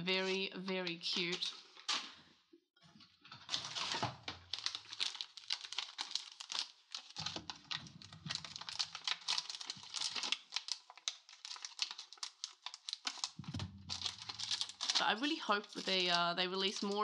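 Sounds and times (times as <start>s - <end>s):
plastic wrapper crinkling: 0.2s - 2.1s, 3.5s - 17.0s.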